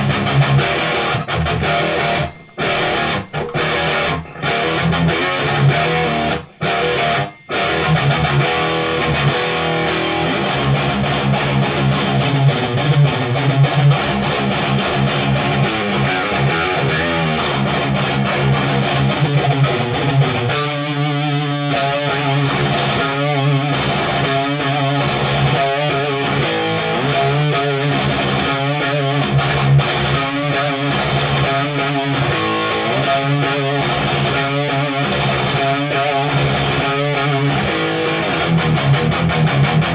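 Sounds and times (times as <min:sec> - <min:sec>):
distorted electric guitar riff: 0:00.0 - 0:39.9.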